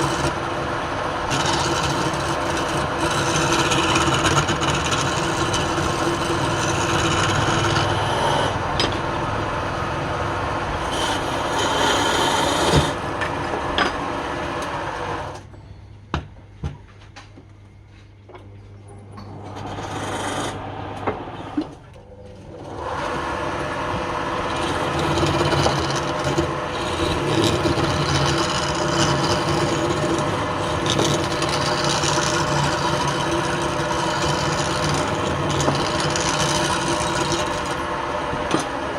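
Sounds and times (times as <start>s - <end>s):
lathe motor hum: 0.0s - 15.4s, 19.2s - 38.9s
turning tool scraping wood: 0.0s - 15.4s, 19.4s - 21.8s, 22.4s - 38.9s.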